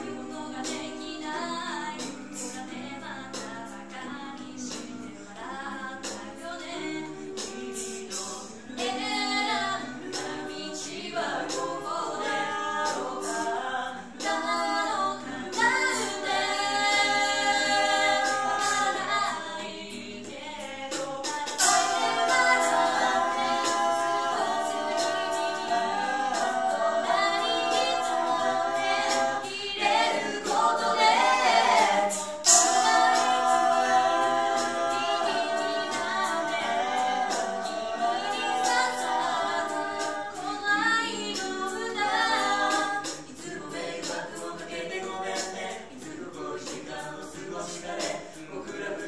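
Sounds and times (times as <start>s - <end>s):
a cappella group singing: 0.0s - 49.0s.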